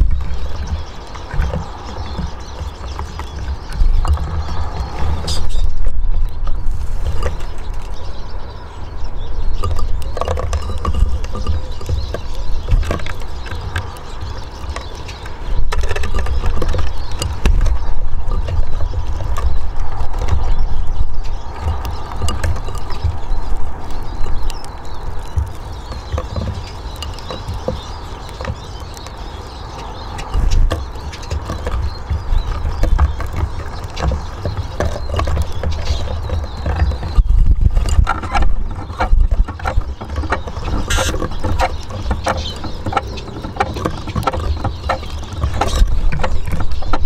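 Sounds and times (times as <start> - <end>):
birds pecking on wooden table: 0.0 - 47.0.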